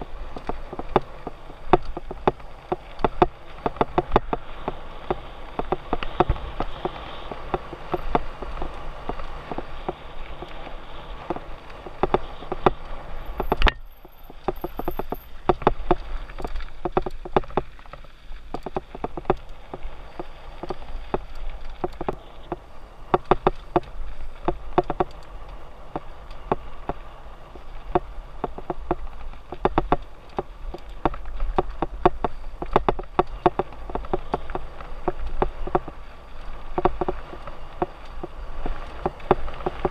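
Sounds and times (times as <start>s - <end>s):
mountain bike rattling: 0.0s - 39.9s
tyres crunching on gravel: 0.0s - 39.9s.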